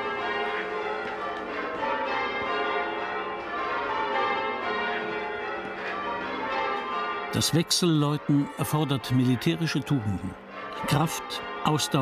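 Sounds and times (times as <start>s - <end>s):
church bells pealing: 0.0s - 12.0s.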